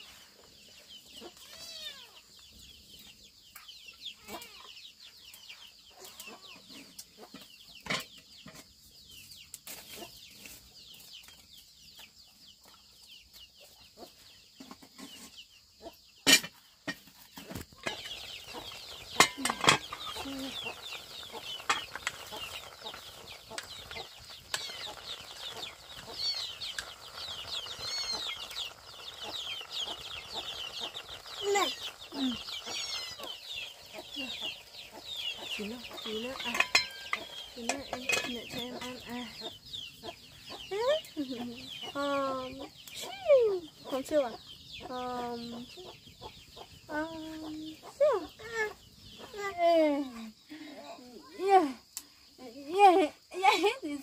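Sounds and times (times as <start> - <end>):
chickens clucking: 3.5 - 52.0.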